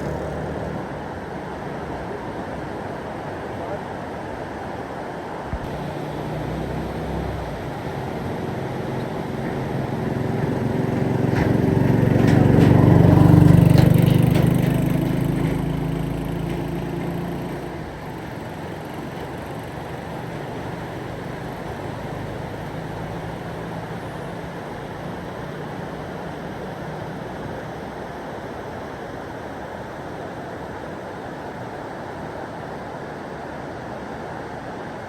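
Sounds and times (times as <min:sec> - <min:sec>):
vehicle engine hum passing: 0:00.0 - 0:03.7, 0:05.5 - 0:34.8.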